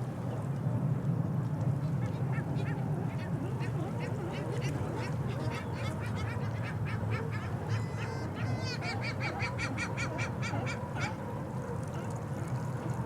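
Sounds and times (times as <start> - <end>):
low harbour rumble: 0.0 - 13.0.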